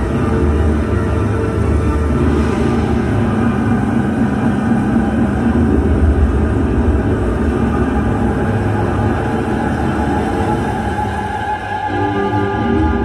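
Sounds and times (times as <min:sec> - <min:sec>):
low rumbling drone: 0:00.0 - 0:13.0
sustained tones: 0:00.0 - 0:13.0.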